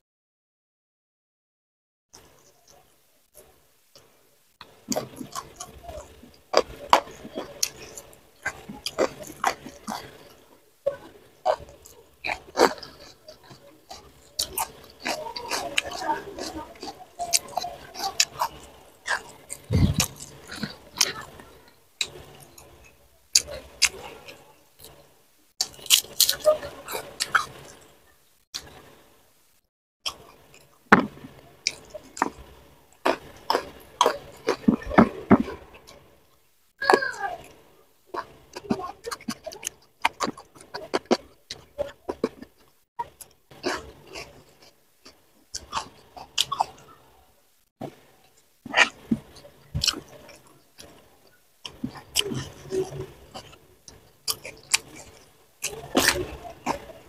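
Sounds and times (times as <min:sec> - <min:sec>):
chewing mouth clicks and smacks: 0:04.9 - 0:10.4, 0:11.0 - 0:25.0, 0:25.6 - 0:27.9, 0:30.1 - 0:36.1, 0:37.4 - 0:46.9, 0:47.8 - 0:57.0.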